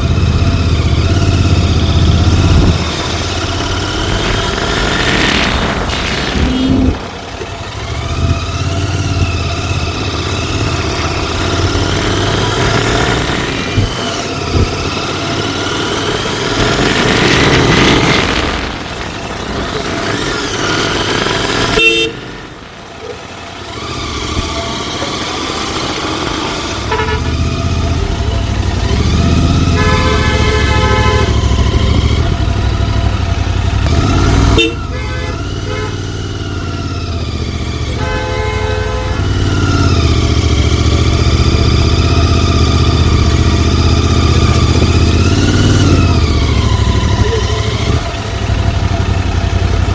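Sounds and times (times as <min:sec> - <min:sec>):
motorcycle engine and exhaust: 0:00.0 - 0:49.9
horns honking: 0:01.0 - 0:18.2, 0:19.8 - 0:22.8, 0:23.7 - 0:49.9.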